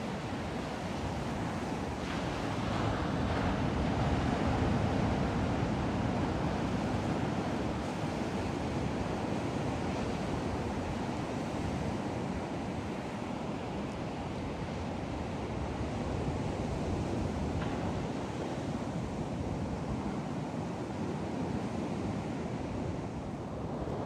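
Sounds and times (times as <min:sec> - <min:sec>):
ocean surf washing ashore: 0:00.0 - 0:24.0.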